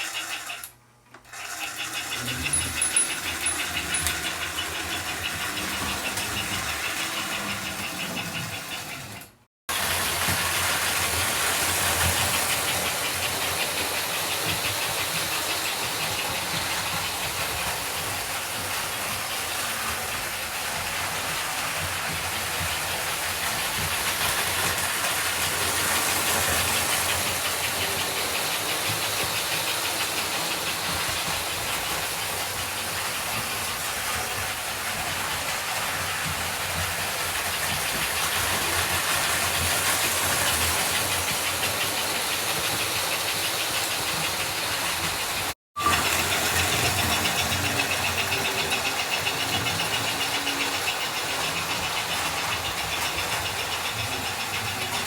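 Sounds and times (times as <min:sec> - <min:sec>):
model train motor and gear hum: 0:00.0 - 0:55.0
wheel noise on rails: 0:00.0 - 0:55.0.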